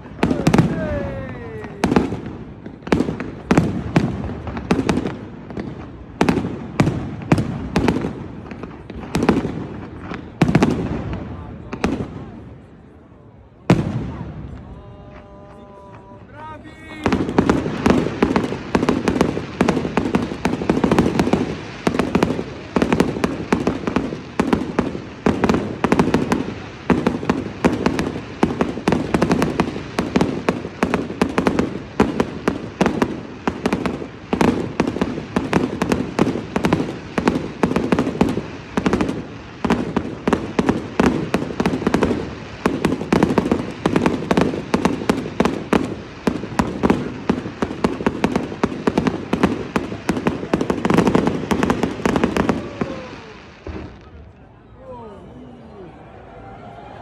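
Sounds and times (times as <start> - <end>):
fireworks bangs and crackles: 0.0 - 54.6.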